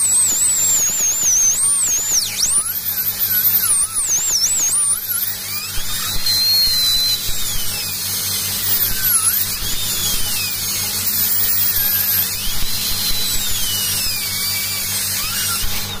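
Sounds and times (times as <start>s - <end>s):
dental drill whining: 0.0s - 16.0s.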